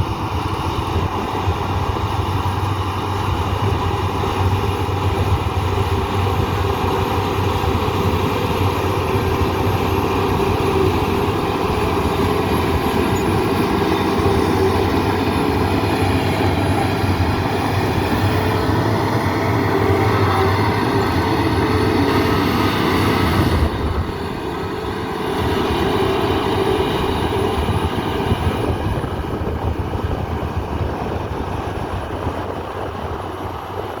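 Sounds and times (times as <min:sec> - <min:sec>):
bulldozer diesel engine rumbling: 0:00.0 - 0:34.0.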